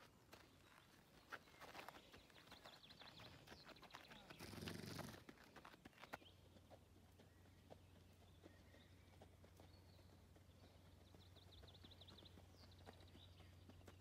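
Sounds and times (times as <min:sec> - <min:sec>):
hoofbeats on sand: 0:00.0 - 0:14.0.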